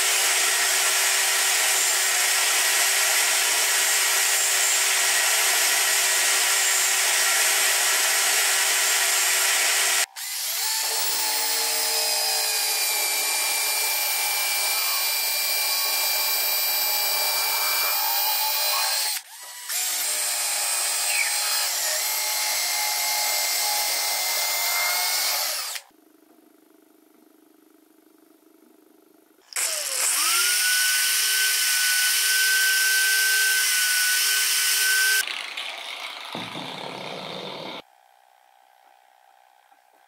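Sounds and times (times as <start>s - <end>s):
electric drill boring wood: 0.0s - 25.9s, 29.5s - 37.8s
power tool running: 0.0s - 25.9s, 29.5s - 37.8s.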